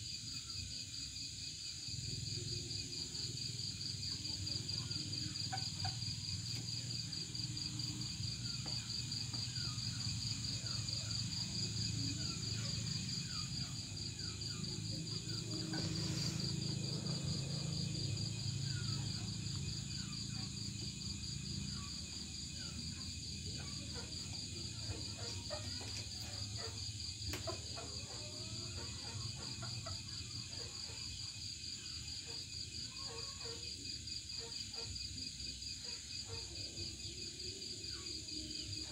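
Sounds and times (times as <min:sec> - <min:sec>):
crickets and insects trilling: 0:00.0 - 0:38.9.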